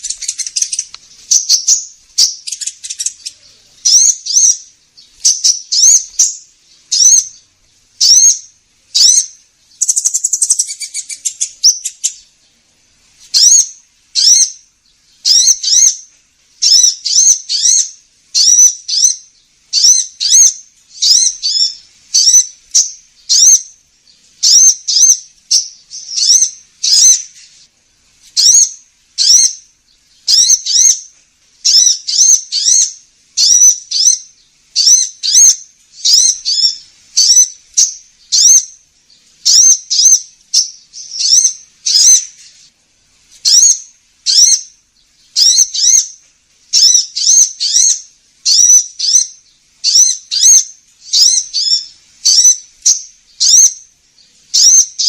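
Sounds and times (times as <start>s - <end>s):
buzzy bird trill: 0.0s - 12.6s, 13.2s - 42.7s, 43.3s - 55.0s
bird chirping: 0.0s - 55.0s.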